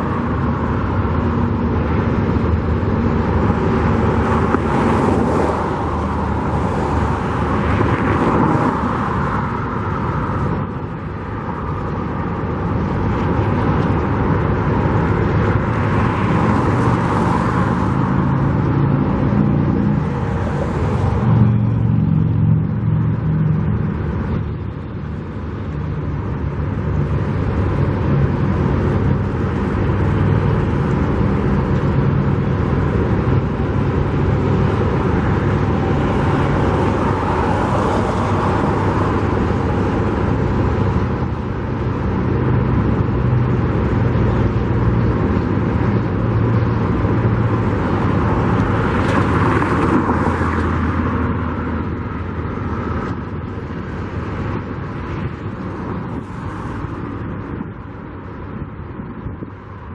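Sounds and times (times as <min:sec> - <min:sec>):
engine rumble: 0:00.0 - 0:59.9
vehicles passing: 0:00.0 - 0:59.9.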